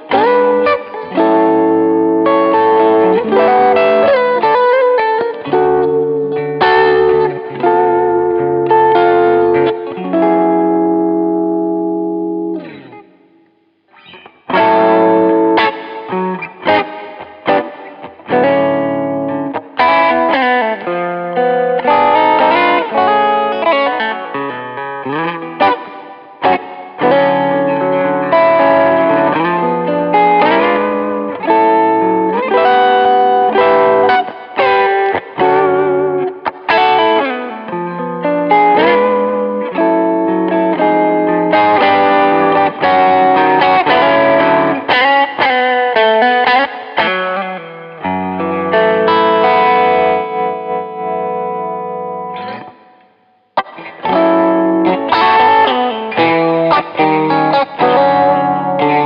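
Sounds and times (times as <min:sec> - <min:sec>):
electric guitar with string bends: 0:00.0 - 0:59.0.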